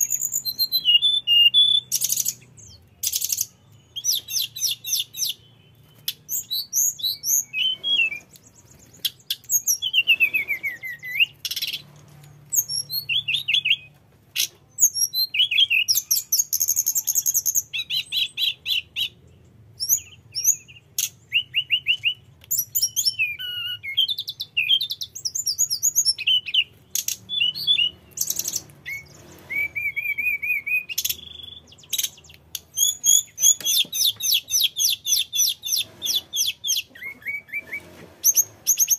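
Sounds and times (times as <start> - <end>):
bird singing whistled phrases: 0.0 - 11.8, 12.5 - 19.2, 19.8 - 38.9.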